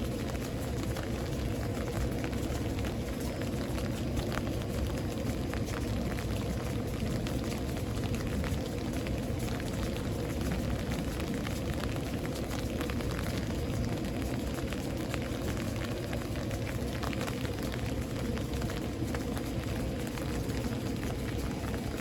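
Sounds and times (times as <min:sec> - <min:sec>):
raindrops ticking on surfaces: 0:00.0 - 0:22.0
steady rain: 0:00.0 - 0:22.0.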